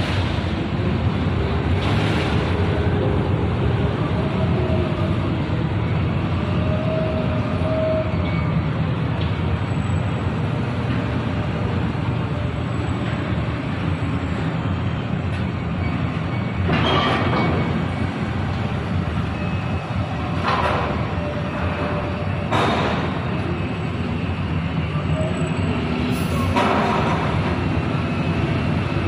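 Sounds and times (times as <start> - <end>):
crane machinery rumble: 0.0 - 29.0.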